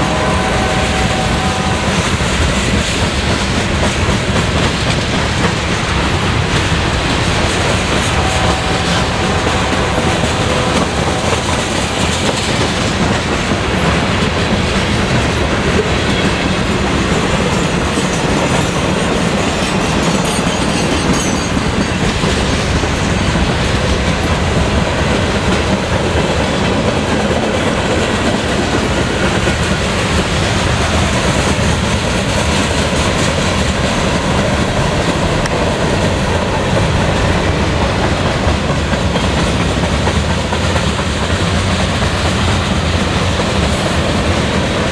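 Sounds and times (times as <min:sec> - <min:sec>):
freight train cars rolling: 0:00.0 - 0:44.9
steel wheels clicking over rail joints: 0:00.0 - 0:44.9.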